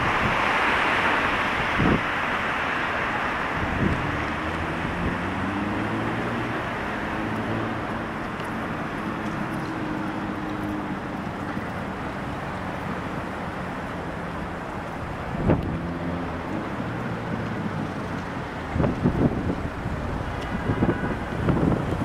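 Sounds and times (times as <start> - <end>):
traffic rush: 0.0 - 22.0
wind: 0.0 - 22.0
low engine hum: 3.1 - 22.0.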